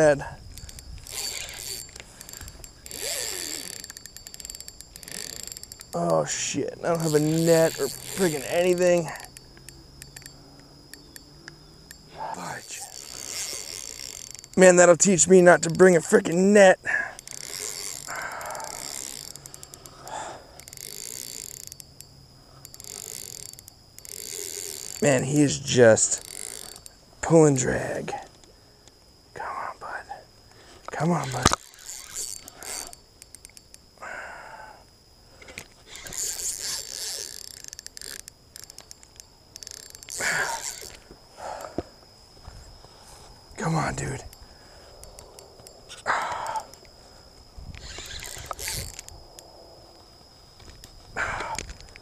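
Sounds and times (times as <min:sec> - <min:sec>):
fishing reel drag clicking: 0:00.0 - 0:27.7, 0:30.5 - 0:33.9, 0:34.8 - 0:41.8, 0:44.3 - 0:52.0.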